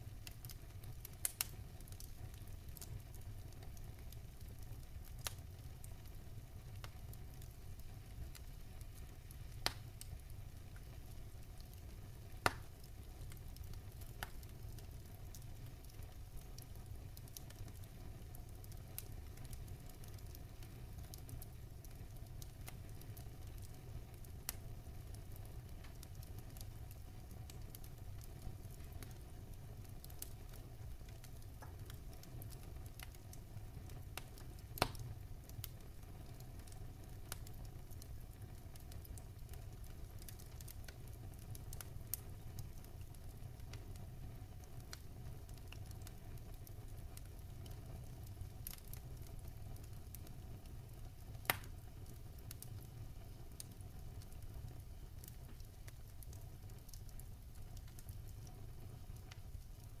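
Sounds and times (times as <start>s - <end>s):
soft crackles: 0.1s - 60.0s.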